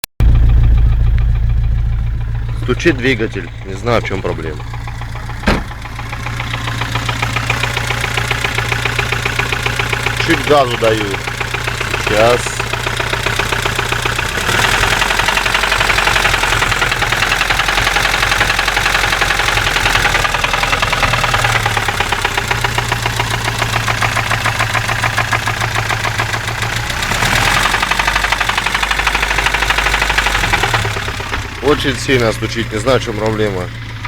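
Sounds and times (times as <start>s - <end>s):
petrol engine running: 0.2s - 34.0s
rapid metallic engine knock: 0.2s - 34.0s.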